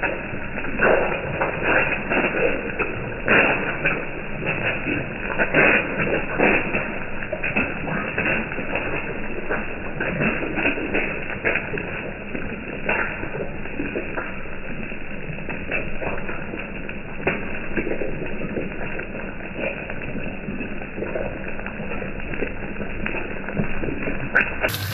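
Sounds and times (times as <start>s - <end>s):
egg sizzling on a griddle: 0.0s - 24.9s.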